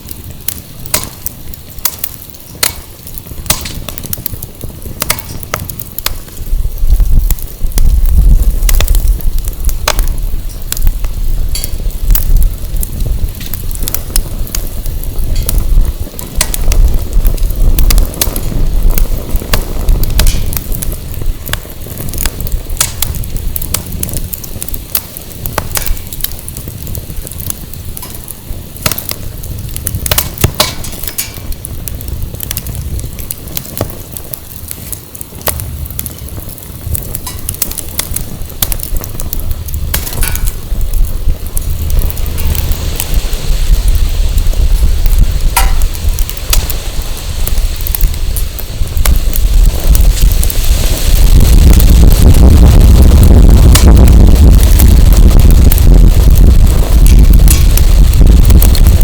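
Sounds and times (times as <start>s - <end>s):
firewood crackling and popping: 0.0s - 59.0s
wind buffeting microphone: 0.0s - 59.0s.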